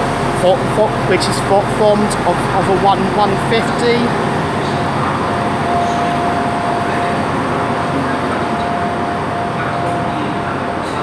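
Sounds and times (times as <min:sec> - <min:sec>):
diesel train rumble: 0:00.0 - 0:11.0
train whine: 0:00.0 - 0:11.0.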